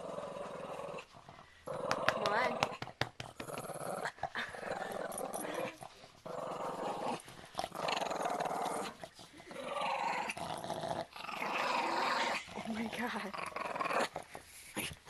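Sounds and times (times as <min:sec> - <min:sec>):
dog making throaty purr: 0:00.0 - 0:15.0.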